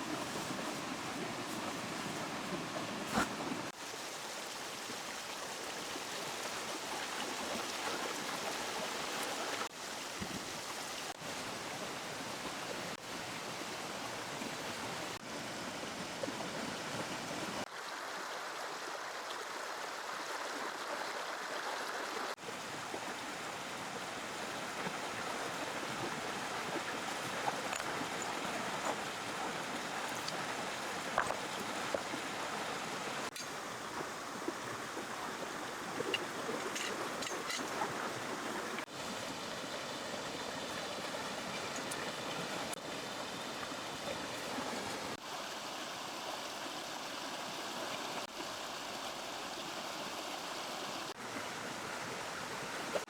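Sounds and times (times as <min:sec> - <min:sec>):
flowing river water: 0:00.0 - 0:53.0.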